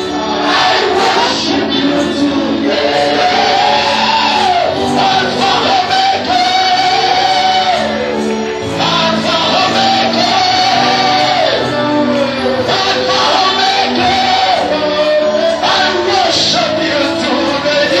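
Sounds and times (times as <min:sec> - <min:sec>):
full band playing: 0:00.0 - 0:18.0
person singing gospel: 0:00.0 - 0:18.0.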